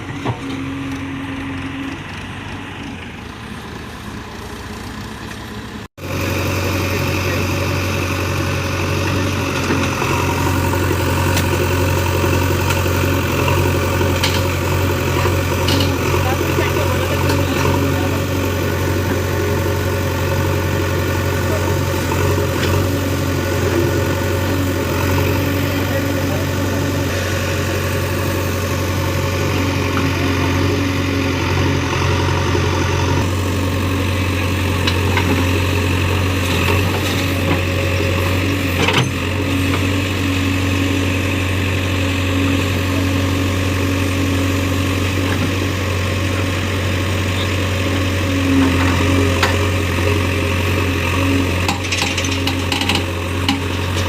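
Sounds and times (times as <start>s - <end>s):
excavator diesel engine drone: 0.0s - 54.0s.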